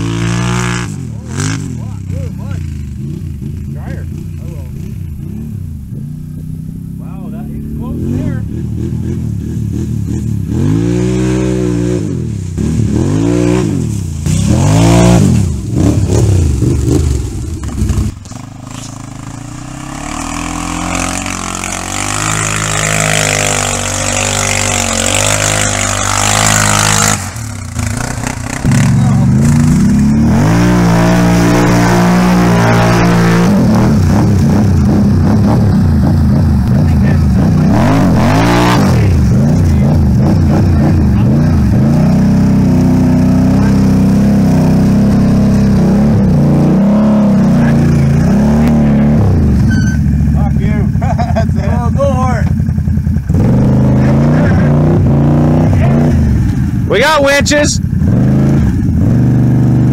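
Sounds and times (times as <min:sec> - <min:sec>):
atv engines revving: 0:00.0 - 0:59.9.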